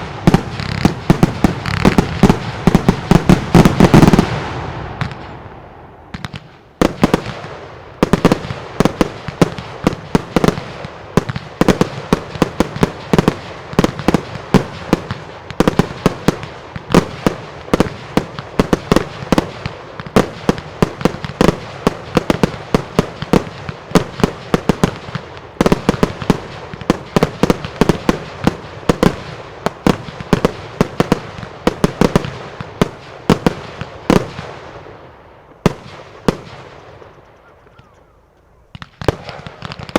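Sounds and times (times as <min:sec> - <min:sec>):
rapid firework bangs: 0:00.0 - 0:05.4, 0:06.1 - 0:34.9, 0:35.6 - 0:37.0, 0:38.7 - 0:39.9.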